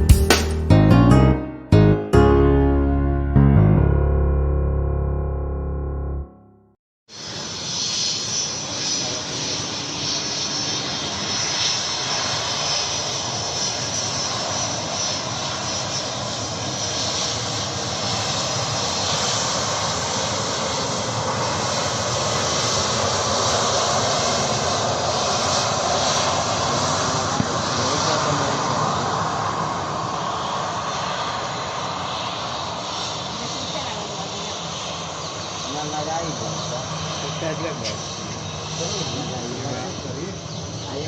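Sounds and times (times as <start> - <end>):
jet engines rushing: 7.1 - 41.0.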